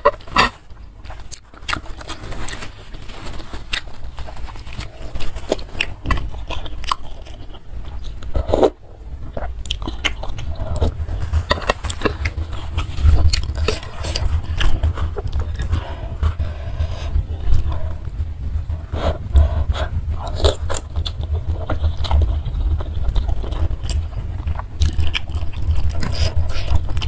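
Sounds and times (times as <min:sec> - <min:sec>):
chewing noodles: 0:00.0 - 0:27.0.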